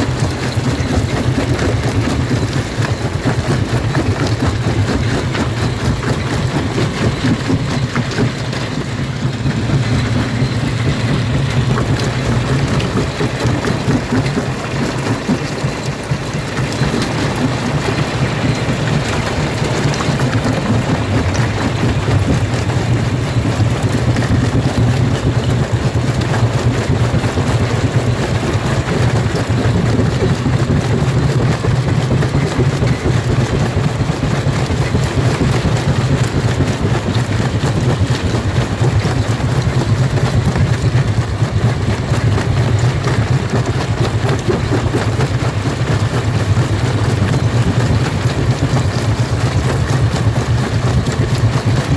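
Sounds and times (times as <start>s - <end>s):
rock crusher machine drone: 0.0s - 51.9s.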